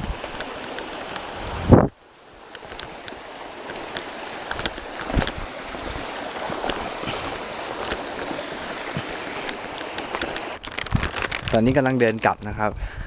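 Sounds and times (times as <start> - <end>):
stream water rushing over rock: 0.0 - 12.2.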